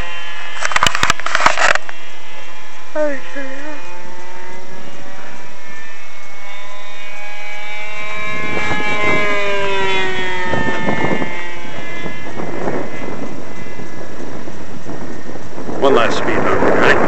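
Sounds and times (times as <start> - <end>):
model plane motor whining: 0.0 - 15.6.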